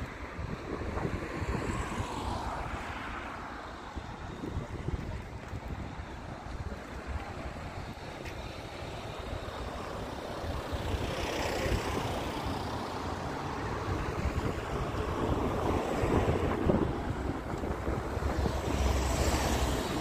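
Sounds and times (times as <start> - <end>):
rush of traffic: 0.0 - 20.0.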